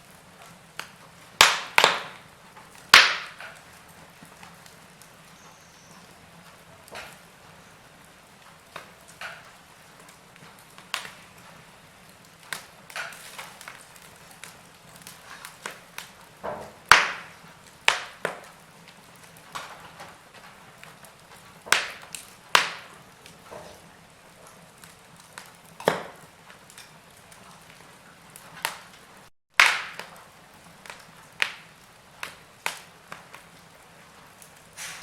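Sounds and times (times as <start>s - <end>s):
logs crackling in fireplace: 0.0s - 35.0s.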